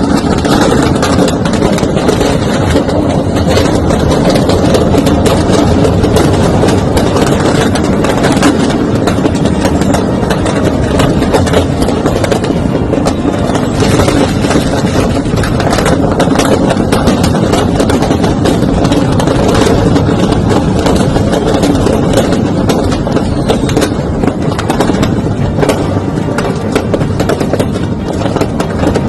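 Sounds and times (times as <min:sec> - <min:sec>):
firecrackers crackling pops: 0:00.0 - 0:29.0
loud continuous rumble: 0:00.0 - 0:29.0.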